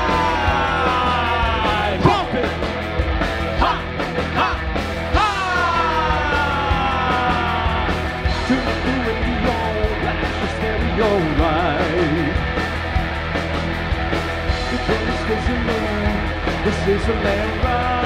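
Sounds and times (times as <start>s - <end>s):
music with a steady beat: 0.0s - 18.0s.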